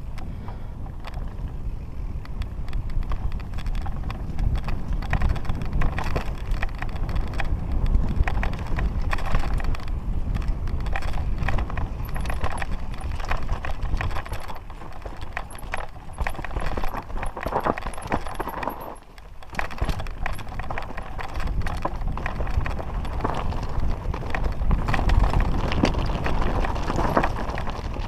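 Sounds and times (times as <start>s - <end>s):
bike rattling and clattering: 0.0s - 28.0s
bike tyres crunching over stones: 0.0s - 28.0s
wind rumble on microphone: 0.0s - 28.0s.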